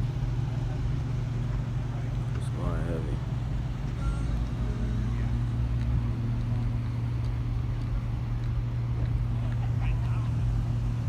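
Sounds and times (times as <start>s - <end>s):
cars idling: 0.0s - 11.0s.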